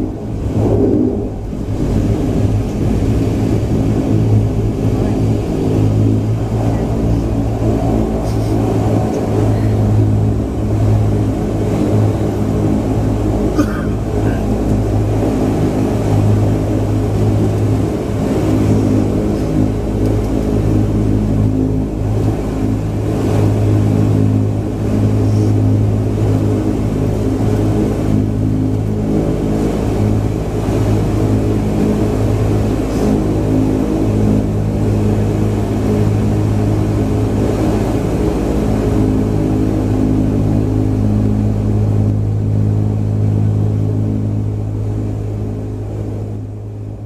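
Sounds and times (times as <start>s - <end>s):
turboprop engine drone: 0.0s - 47.0s.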